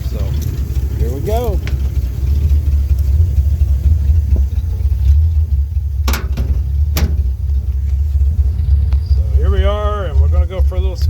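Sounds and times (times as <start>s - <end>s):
pickup truck engine rumbling: 0.0s - 11.0s.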